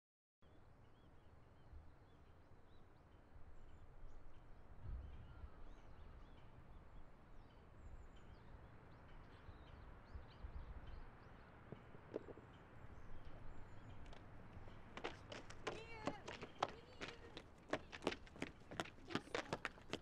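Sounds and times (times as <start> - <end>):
low rumble of wind: 0.4 - 20.0.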